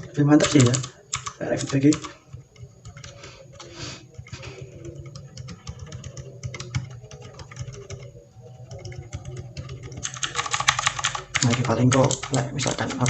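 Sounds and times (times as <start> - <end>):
quiet mechanical keyboard typing: 0.0 - 13.0.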